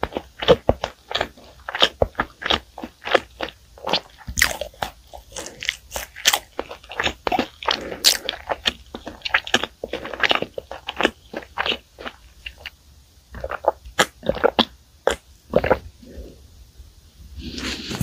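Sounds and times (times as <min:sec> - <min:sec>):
chewing bread with crisp crunches: 0:00.0 - 0:15.9
moist mouth sounds: 0:00.0 - 0:16.4, 0:17.4 - 0:18.0.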